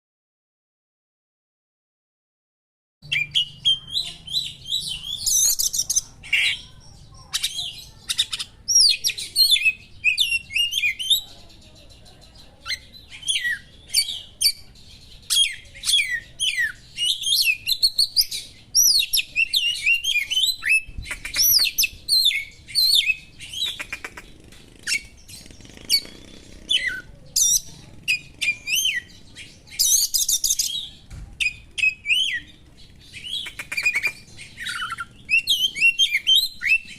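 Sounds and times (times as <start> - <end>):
magpie-robin singing: 3.0 - 36.9.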